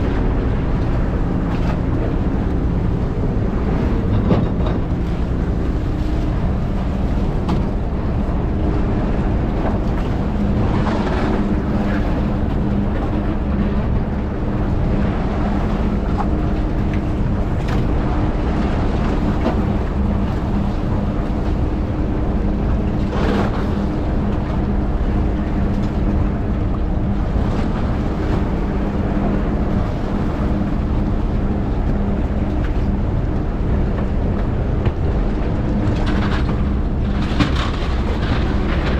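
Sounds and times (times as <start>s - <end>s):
boat engine humming: 0.0s - 38.9s
wind and water noise: 0.0s - 38.9s.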